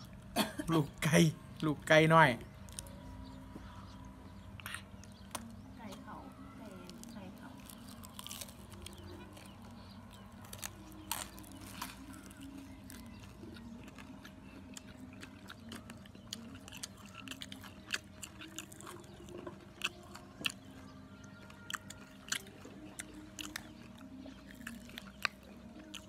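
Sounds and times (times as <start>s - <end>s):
crunchy chewing: 2.5s - 26.0s.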